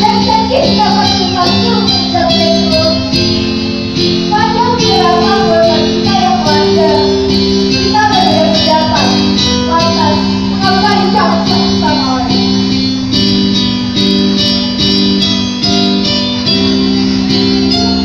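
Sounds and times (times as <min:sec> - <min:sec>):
music with held chords: 0:00.0 - 0:18.0.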